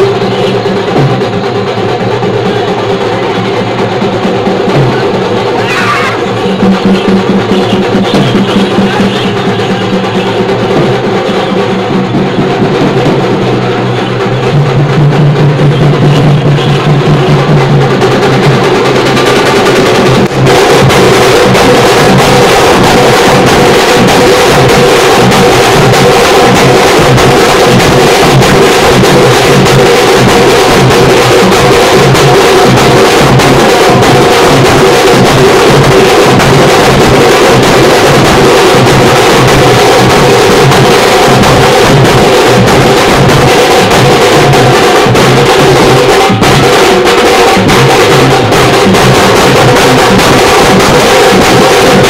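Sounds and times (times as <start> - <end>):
fast dense drumming: 0.0 - 52.0.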